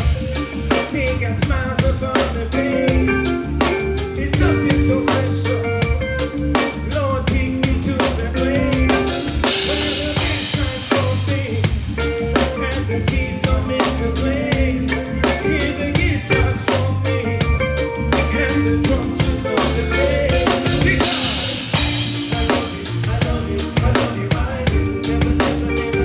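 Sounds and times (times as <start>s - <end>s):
bass line: 0.0s - 26.0s
rock band playing: 0.0s - 26.0s.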